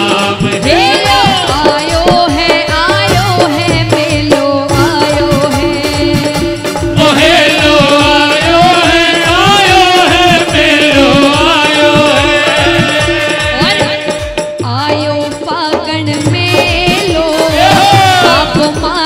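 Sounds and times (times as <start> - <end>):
woman singing: 0.0 - 9.6, 11.1 - 19.0
hand drum beat: 0.0 - 19.0.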